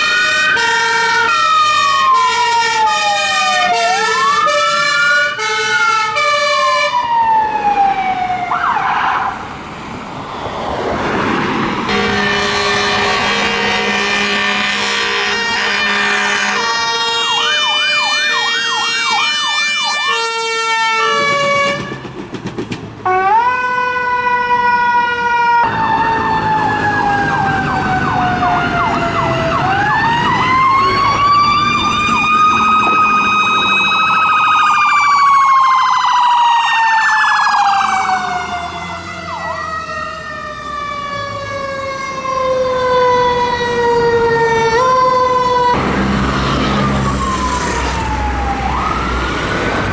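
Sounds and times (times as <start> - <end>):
fire engine siren wail: 0.0 - 22.2, 23.0 - 49.9
fire engine siren yelp: 0.0 - 22.2, 23.0 - 49.9.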